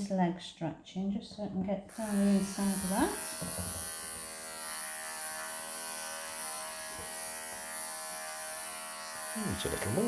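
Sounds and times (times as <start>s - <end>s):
electric clippers buzzing: 1.9s - 10.0s.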